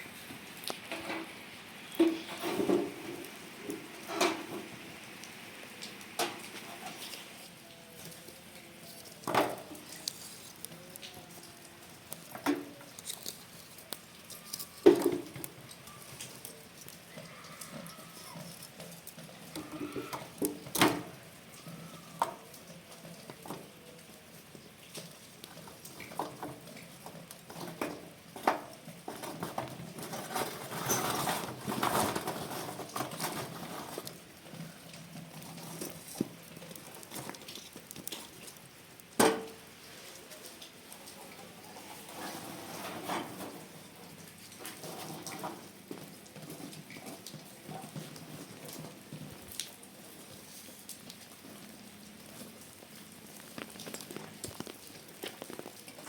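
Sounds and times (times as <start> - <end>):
rustling: 6.2 - 23.6, 28.4 - 56.0.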